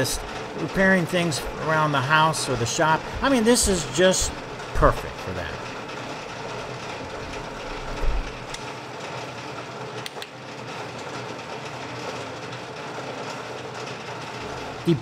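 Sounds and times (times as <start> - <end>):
metal lathe whirring: 0.0 - 15.0.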